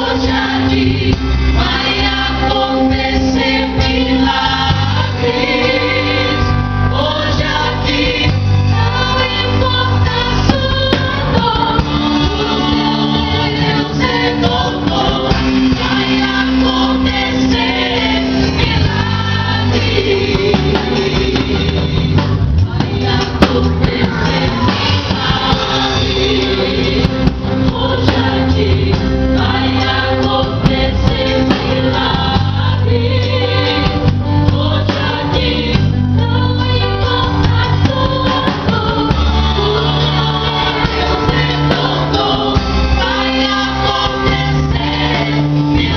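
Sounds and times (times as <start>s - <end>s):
band playing: 0.0s - 45.9s
group singing worship song: 0.0s - 45.9s
steady bass line: 0.0s - 45.9s.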